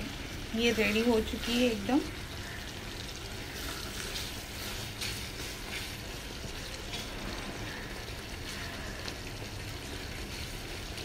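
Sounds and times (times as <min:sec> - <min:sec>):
chutney sizzling in a pan: 0:00.0 - 0:11.0.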